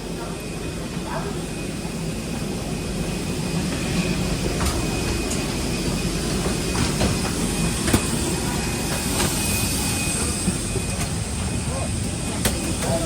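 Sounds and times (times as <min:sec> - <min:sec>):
airliner air system and engines hum: 0:00.0 - 0:13.0.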